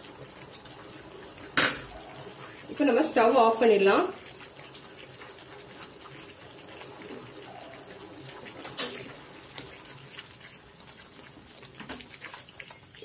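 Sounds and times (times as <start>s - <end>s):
spatula stirring sticky mass: 0.0s - 13.0s.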